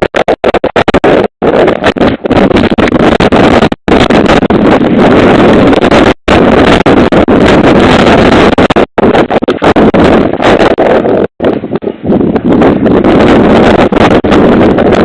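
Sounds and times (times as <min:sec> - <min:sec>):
wildfire roaring in wind: 0:00.0 - 0:15.0.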